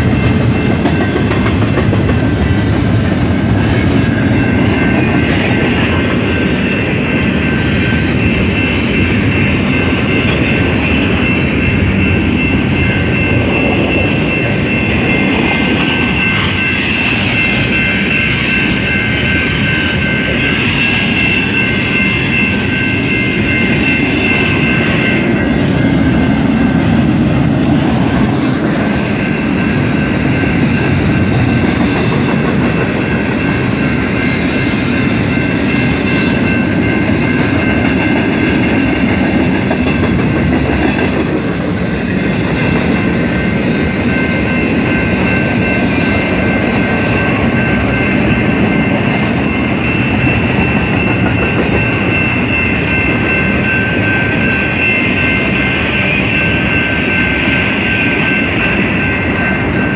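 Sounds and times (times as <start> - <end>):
train wheels rumbling and clattering: 0.0 - 59.9.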